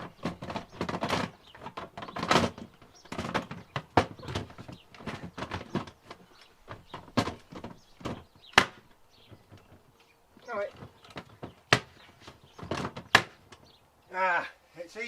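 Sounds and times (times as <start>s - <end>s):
irregular clicks and knocks: 0.0s - 13.8s.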